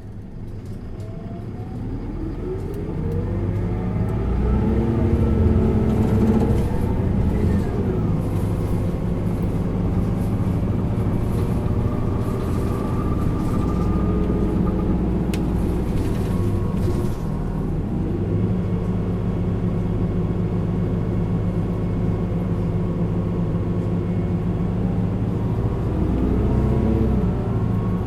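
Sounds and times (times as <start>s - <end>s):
bus diesel engine accelerating: 0.0s - 28.0s.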